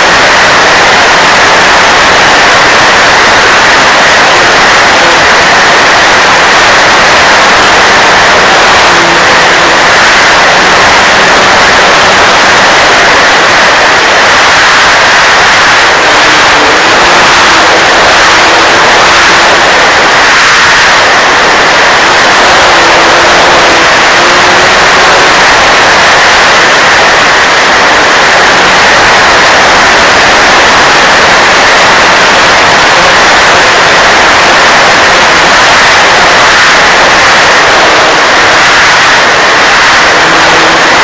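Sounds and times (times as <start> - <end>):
model plane motor whine: 0.0 - 41.0.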